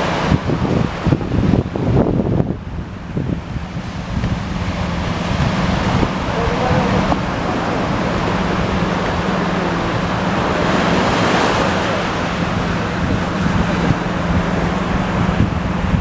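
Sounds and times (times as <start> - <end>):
ocean waves washing: 0.0 - 16.0
wind buffeting microphone: 0.0 - 16.0.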